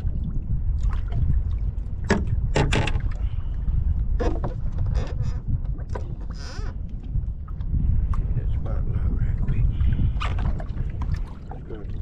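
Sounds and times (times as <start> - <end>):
water lapping at boat: 0.0 - 12.0
wind rumbling on microphone: 0.0 - 12.0.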